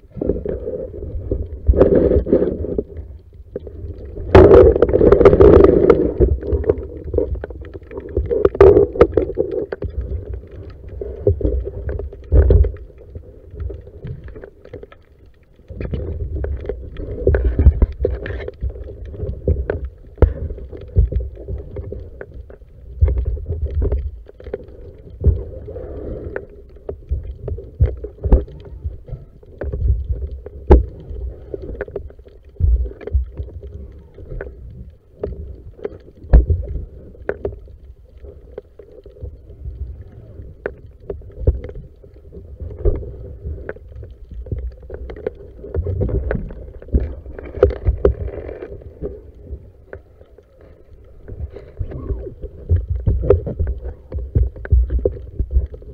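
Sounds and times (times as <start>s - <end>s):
faint steady hum: 0.0s - 55.9s
muffled underwater movement: 0.0s - 55.9s.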